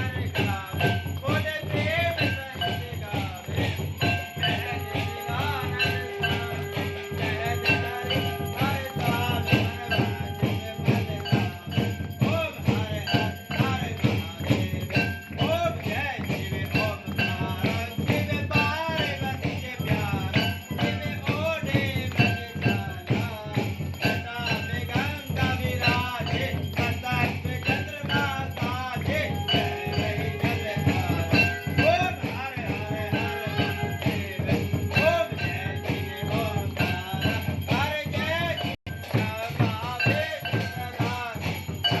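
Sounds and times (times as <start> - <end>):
bells jingling: 0.0 - 42.0
devotional music: 0.0 - 42.0.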